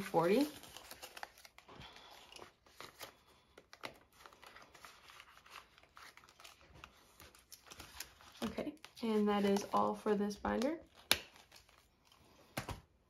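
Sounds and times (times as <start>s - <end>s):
paper banknotes rustling: 0.0s - 12.8s.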